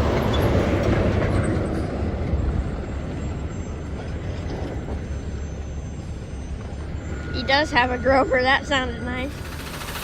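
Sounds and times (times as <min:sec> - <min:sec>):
heavy truck driving past: 0:00.0 - 0:10.0.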